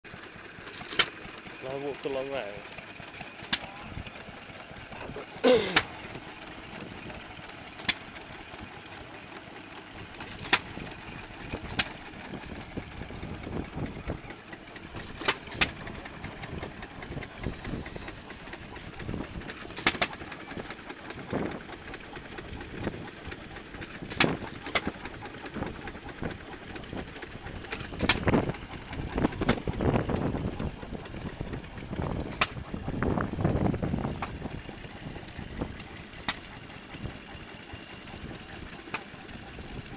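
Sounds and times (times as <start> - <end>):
engine running low: 0.1 - 39.9
stationary engine exhaust bangs: 0.1 - 39.9.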